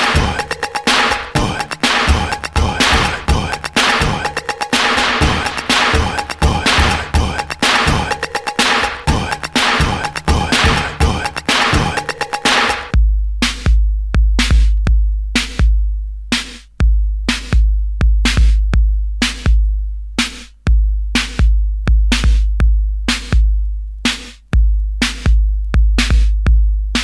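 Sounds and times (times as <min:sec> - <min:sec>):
drum machine beat: 0:00.0 - 0:27.0.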